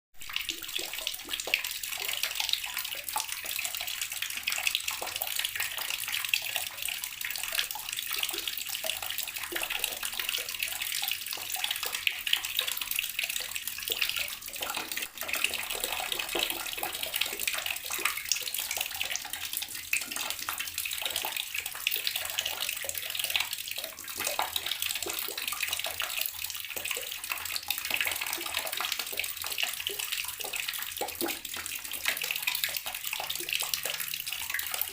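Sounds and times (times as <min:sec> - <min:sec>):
tap water splashing into basin: 0:00.2 - 0:34.9.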